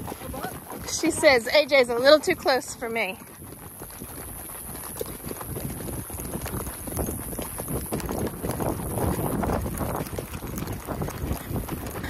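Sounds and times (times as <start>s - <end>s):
horse hoofbeats clip-clopping: 0.0s - 12.0s.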